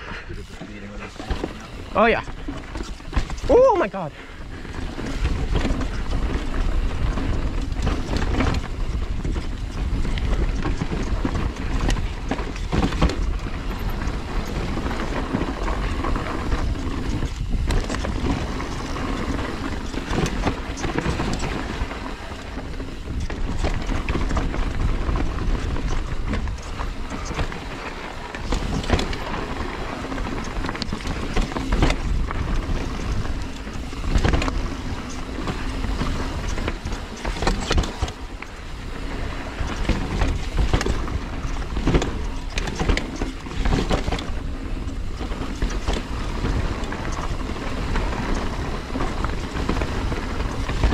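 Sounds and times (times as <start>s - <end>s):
bike rattling over rocks: 0.0s - 50.9s
wind rushing over microphone: 0.0s - 50.9s.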